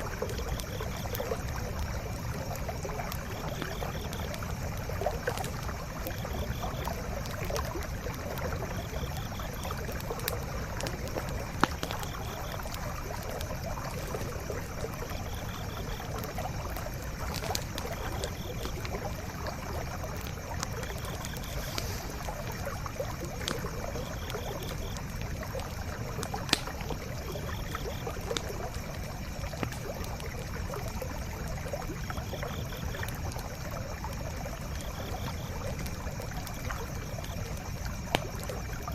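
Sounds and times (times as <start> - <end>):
campfire crackling and popping: 0.0 - 38.9
stream running: 0.0 - 38.9.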